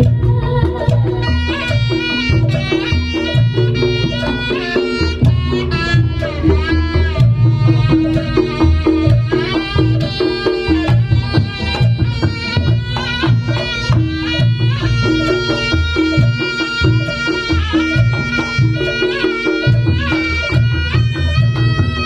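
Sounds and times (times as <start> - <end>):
hand drums pattern: 0.0 - 22.0
shrill reedy shawm melody: 1.2 - 22.0.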